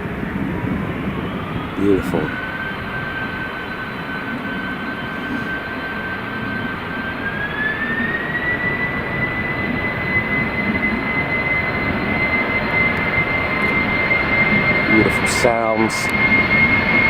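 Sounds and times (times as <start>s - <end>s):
jet engines spooling up: 0.0s - 17.0s.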